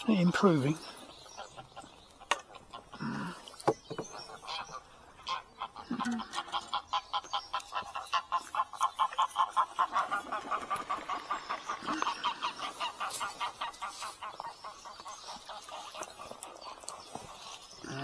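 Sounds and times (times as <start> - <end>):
bird rapid repeated calls: 0.0 - 18.0.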